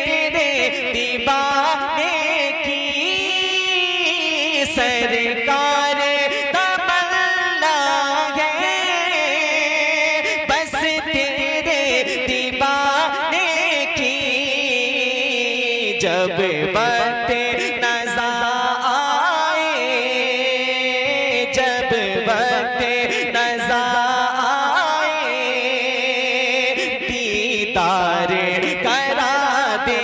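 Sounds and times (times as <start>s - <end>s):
man singing into a microphone: 0.0s - 30.0s.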